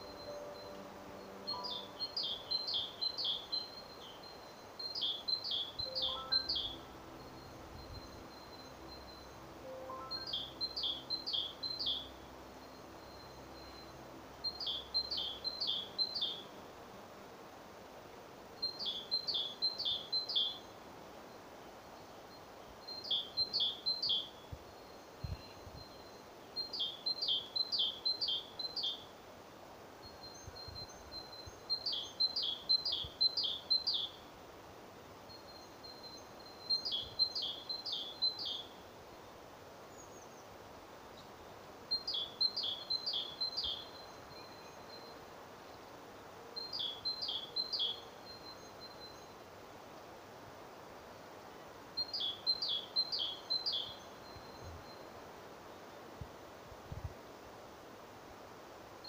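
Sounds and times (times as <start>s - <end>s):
songbird singing: 0.0s - 56.6s.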